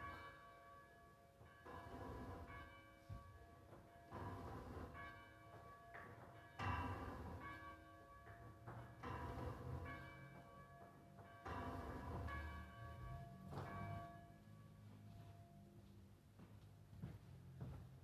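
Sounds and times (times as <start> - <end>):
church bell tolling: 0.0 - 15.7.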